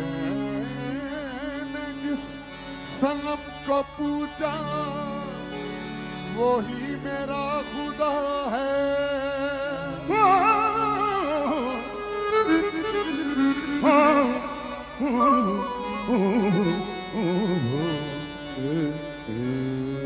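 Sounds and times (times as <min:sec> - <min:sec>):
instrumental accompaniment: 0:00.0 - 0:20.0
man singing with vibrato: 0:00.0 - 0:20.0.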